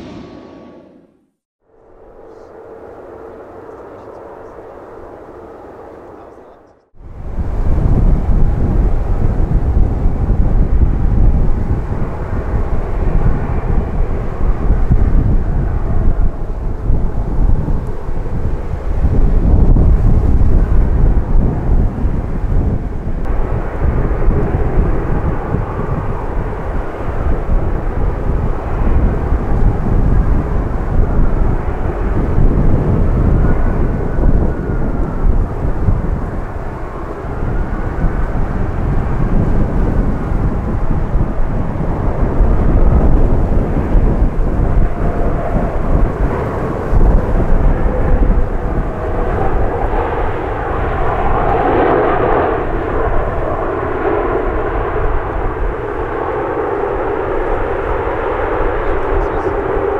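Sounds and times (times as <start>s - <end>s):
faint jet engine whine: 0.0s - 59.9s
jet engines rumbling: 0.0s - 59.9s.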